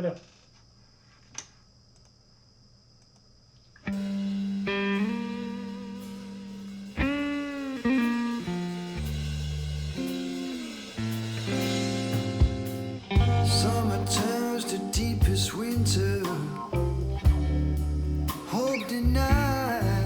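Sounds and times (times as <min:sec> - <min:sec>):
blues-rock electric guitar: 0:03.9 - 0:20.0.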